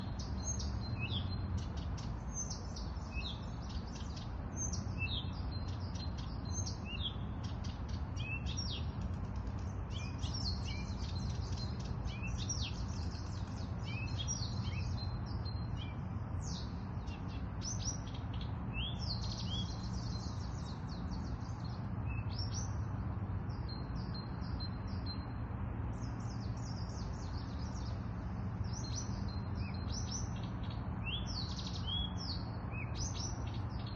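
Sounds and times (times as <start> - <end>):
songbirds chirping and trilling: 0.0 - 33.9.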